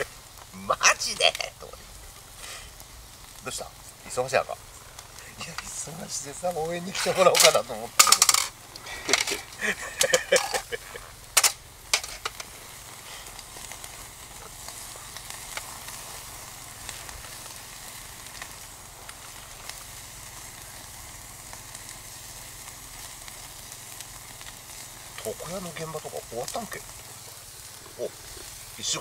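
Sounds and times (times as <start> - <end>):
campfire hissing: 0.0 - 29.0
faint fire pops: 0.0 - 29.0.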